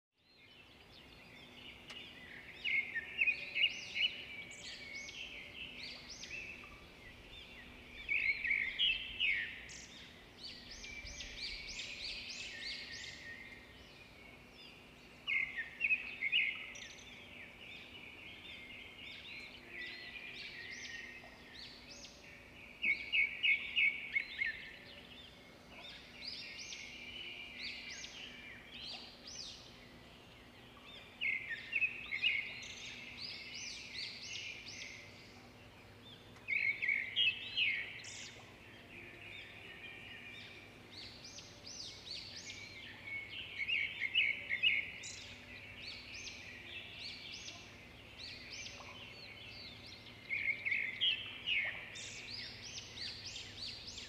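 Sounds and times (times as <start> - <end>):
birds chirping and calling: 1.2 - 54.0.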